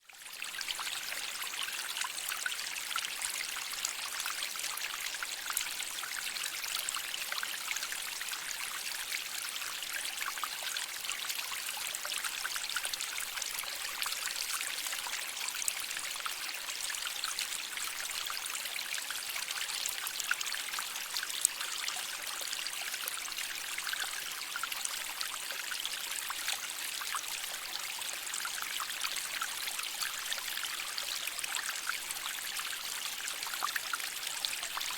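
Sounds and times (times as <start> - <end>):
stream trickling over rocks: 0.0 - 34.9.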